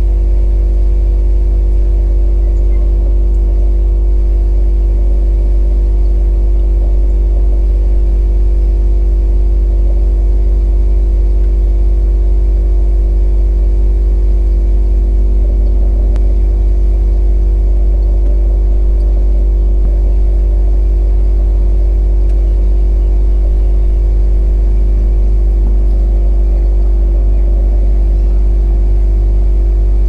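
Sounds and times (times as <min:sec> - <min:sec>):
drone propellers humming: 0:00.0 - 0:30.0.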